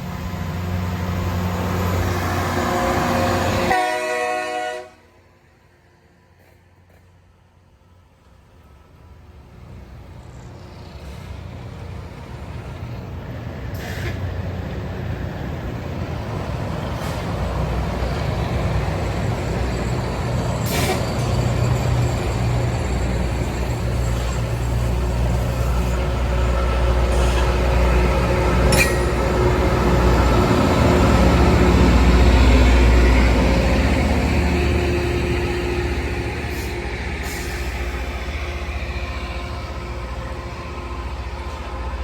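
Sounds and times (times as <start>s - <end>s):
rail grinder train droning: 0.0s - 42.0s.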